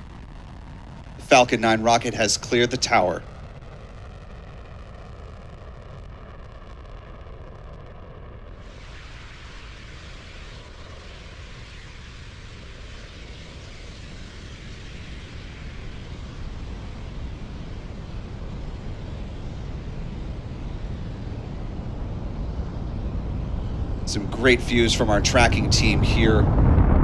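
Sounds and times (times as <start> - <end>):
distant rocket engine roar: 0.0 - 27.0.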